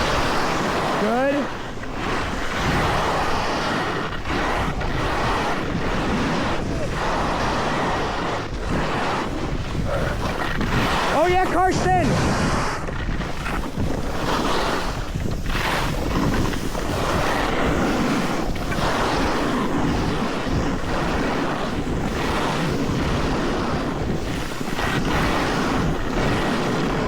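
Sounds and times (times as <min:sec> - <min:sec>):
ski edges scraping snow: 0:00.0 - 0:27.0
wind rushing over microphone: 0:00.0 - 0:27.0.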